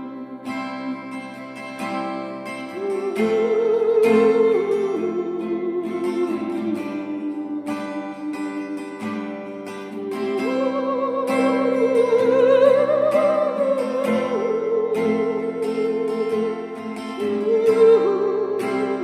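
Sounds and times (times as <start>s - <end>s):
plucked strings: 0.0s - 19.0s
wavering melody with vibrato: 0.0s - 19.0s.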